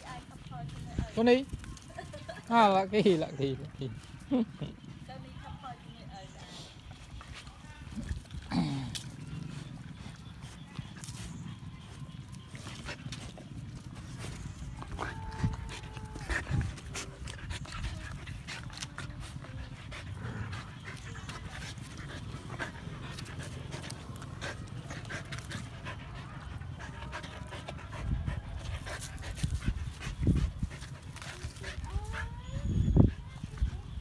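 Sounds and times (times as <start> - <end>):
dogs panting: 0.0 - 34.0.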